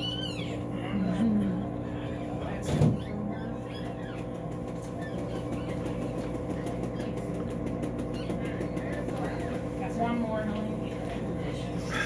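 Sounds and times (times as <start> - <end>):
equipment humming: 0.0 - 12.0.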